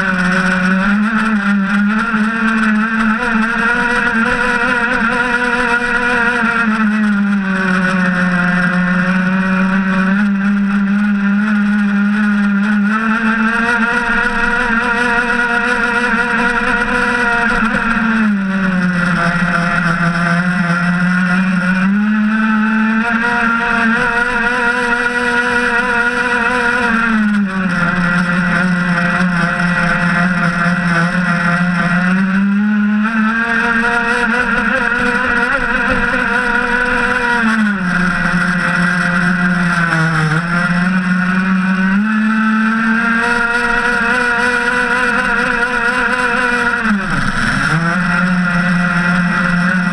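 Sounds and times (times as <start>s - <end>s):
two-stroke engine at high revs: 0.0s - 49.9s.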